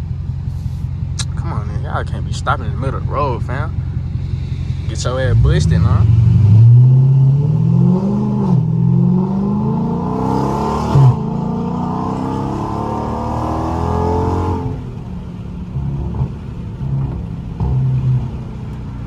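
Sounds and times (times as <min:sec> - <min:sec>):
car engine revving at full throttle: 0:00.0 - 0:19.0
exhaust bark: 0:00.0 - 0:19.0.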